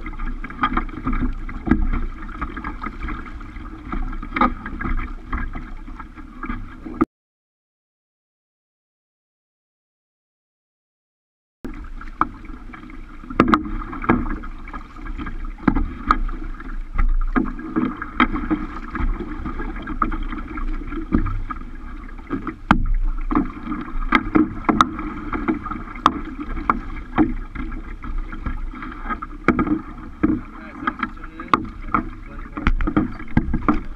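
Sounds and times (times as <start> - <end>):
sharp slaps and knocks on hull: 0.0 - 7.0, 11.7 - 33.9
water splashing against kayak hull: 0.0 - 7.1, 11.7 - 33.9.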